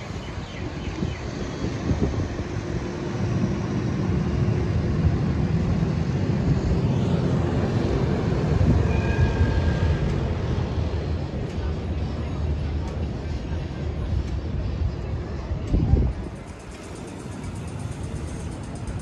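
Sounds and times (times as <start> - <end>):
city street traffic rumble: 0.0 - 19.0
trams running: 0.0 - 19.0.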